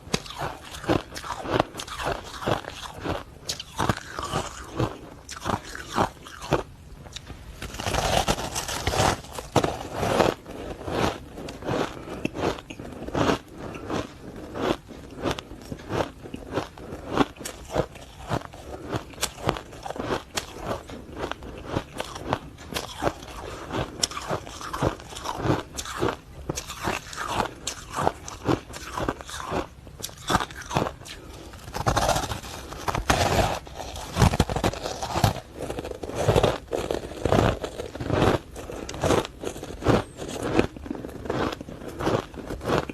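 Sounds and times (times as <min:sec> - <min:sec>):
ice crunching while chewed: 0:00.0 - 0:42.9.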